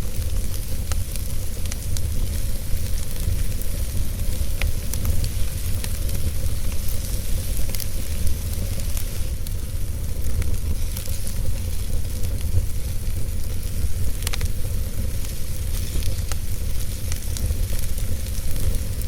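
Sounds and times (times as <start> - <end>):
fire crackles and pops: 0.0 - 19.0
wood fire burning: 0.0 - 19.0.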